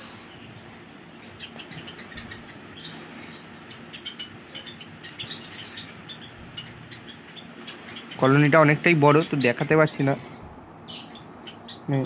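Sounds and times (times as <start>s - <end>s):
cage birds chirping: 0.0s - 12.0s.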